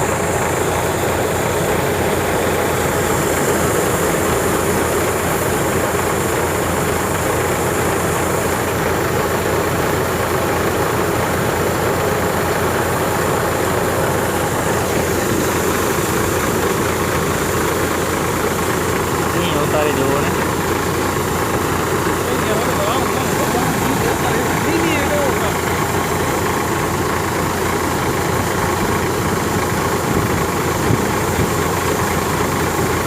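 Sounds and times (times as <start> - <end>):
thresher and tractor engine din: 0.0 - 33.0.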